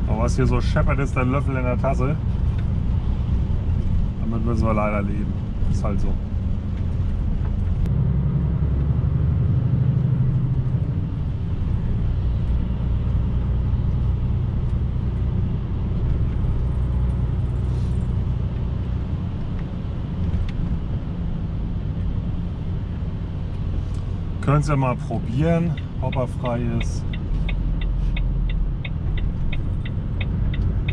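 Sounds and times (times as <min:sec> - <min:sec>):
truck engine and road rumble: 0:00.0 - 0:30.9.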